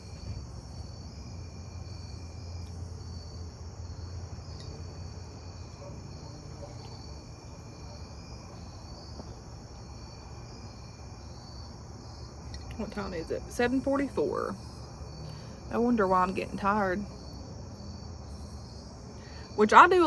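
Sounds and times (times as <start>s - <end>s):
crickets trilling: 0.0s - 20.0s
faint lower insect tone: 0.0s - 20.0s.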